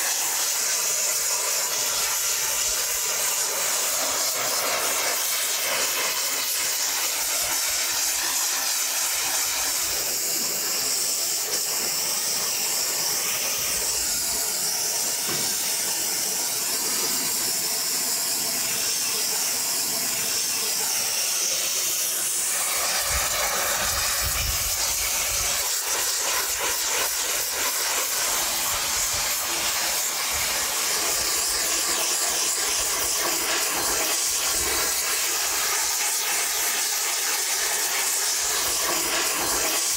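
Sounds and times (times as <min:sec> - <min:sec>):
gas torch hissing: 0:00.0 - 0:39.9.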